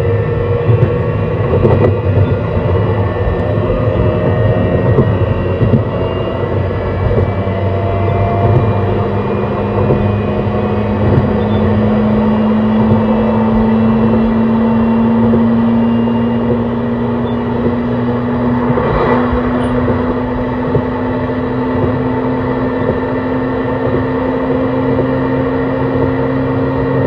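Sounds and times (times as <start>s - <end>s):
electric train motor whine: 0.0s - 27.0s
wheel and rail noise: 0.0s - 27.0s.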